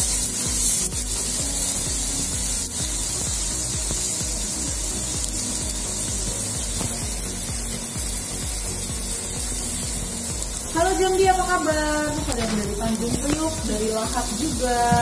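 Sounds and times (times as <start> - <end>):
meat sizzling in grill pan: 0.0 - 15.0.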